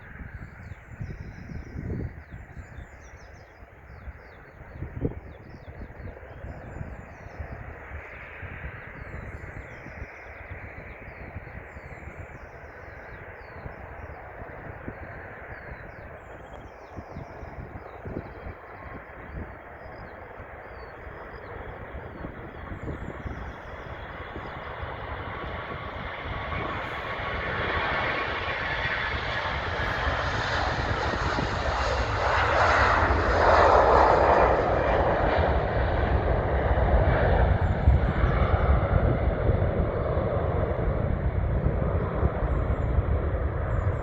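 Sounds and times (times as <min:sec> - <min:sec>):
airliner engines passing: 0:00.0 - 0:44.0.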